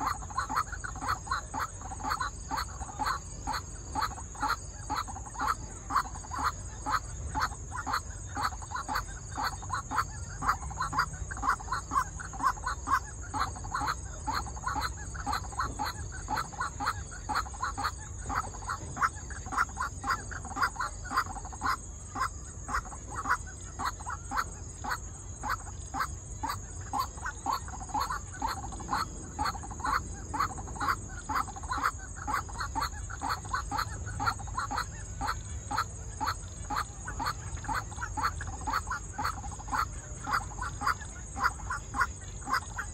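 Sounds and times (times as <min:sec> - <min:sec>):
bird croaking call: 0:00.0 - 0:42.9.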